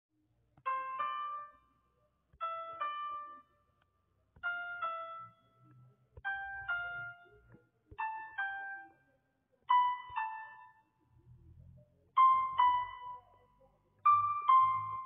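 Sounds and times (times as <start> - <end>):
piano playing gentle chords: 0.6 - 15.0.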